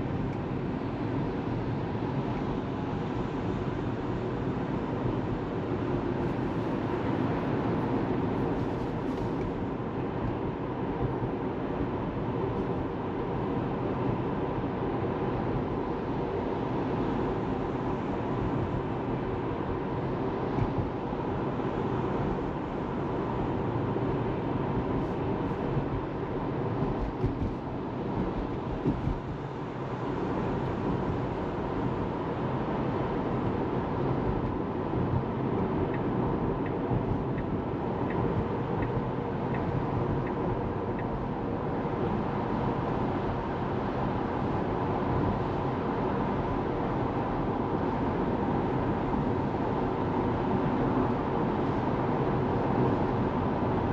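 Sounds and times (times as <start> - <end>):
road and tyre noise: 0.0 - 53.9.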